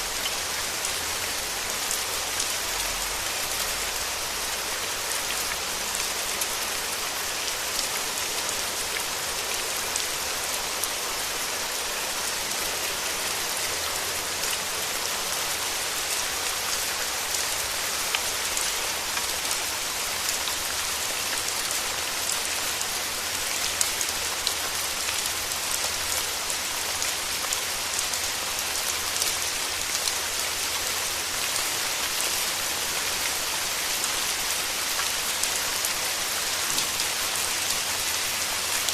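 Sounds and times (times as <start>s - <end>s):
rain falling: 0.0s - 38.9s
raindrops hitting close by: 0.0s - 38.9s.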